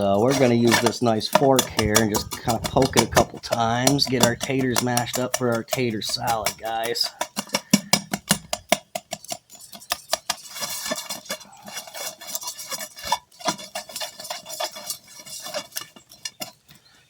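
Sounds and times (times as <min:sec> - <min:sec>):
potato squishing: 0:00.0 - 0:16.9.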